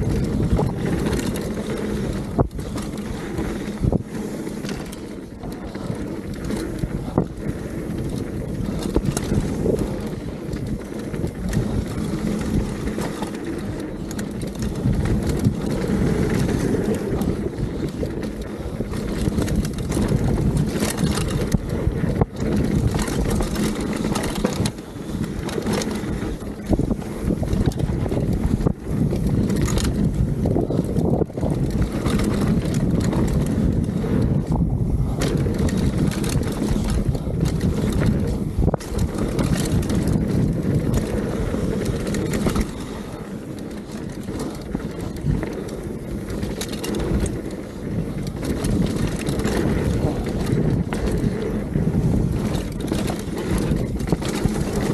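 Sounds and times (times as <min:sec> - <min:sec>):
bike knocking and rattling: 0:00.0 - 0:54.9
tyres rumbling on dirt: 0:00.0 - 0:54.9
wind rushing over microphone: 0:00.0 - 0:54.9.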